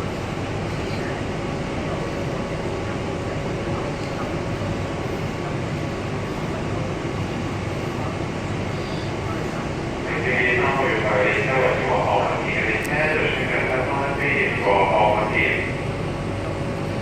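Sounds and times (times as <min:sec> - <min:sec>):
faint steady hum: 0:00.0 - 0:17.0
train noise: 0:00.0 - 0:17.0.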